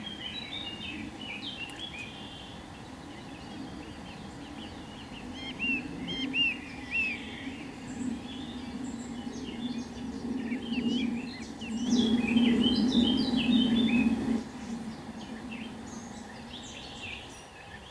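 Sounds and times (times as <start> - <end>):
small birds chirping: 0.0 - 17.9
steady low hum: 0.0 - 17.9.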